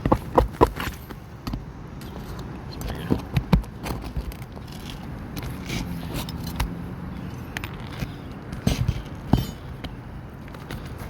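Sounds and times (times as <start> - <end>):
hand tools clicking and scraping: 0.0 - 11.0.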